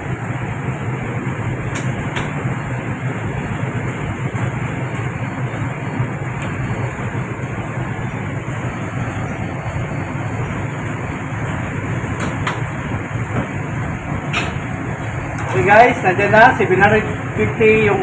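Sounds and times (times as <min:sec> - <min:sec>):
diesel generators droning: 0:00.0 - 0:18.0.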